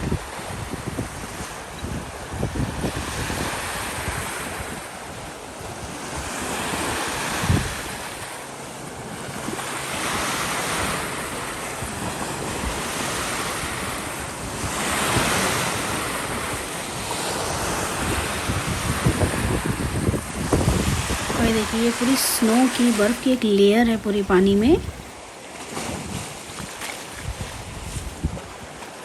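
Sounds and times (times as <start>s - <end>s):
wind buffeting microphone: 0.0s - 8.3s, 8.9s - 25.1s, 25.8s - 28.8s
waves washing against shore: 0.0s - 29.0s.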